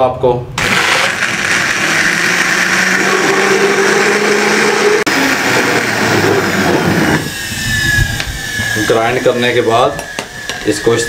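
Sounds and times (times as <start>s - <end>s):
blender whirring: 0.6s - 11.0s.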